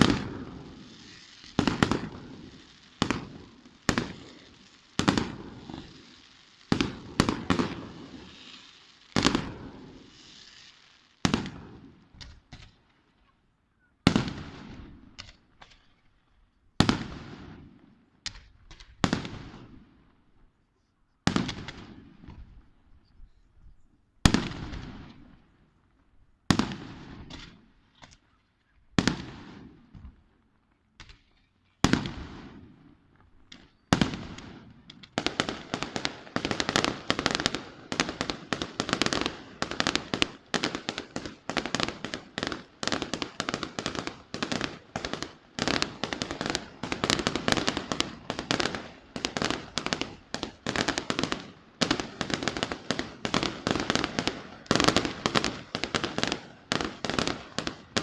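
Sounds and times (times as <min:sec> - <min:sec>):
fireworks bangs echoing: 0:00.0 - 0:13.2, 0:14.0 - 0:16.2, 0:16.8 - 0:20.3, 0:21.2 - 0:22.9, 0:24.2 - 0:25.6, 0:26.5 - 0:28.3, 0:28.9 - 0:58.0.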